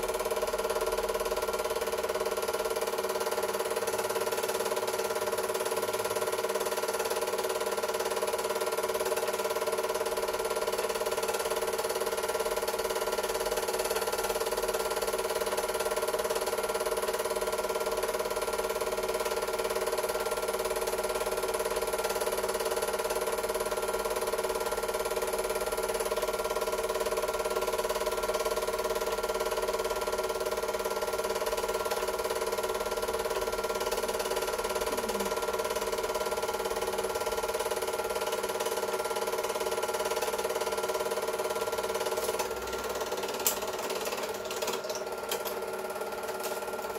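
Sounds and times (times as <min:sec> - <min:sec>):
film projector humming: 0:00.0 - 0:46.9.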